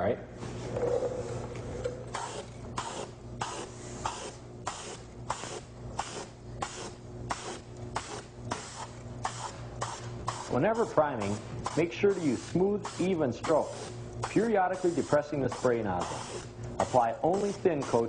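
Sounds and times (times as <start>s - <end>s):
aerosol spray can hissing: 2.1s - 18.0s.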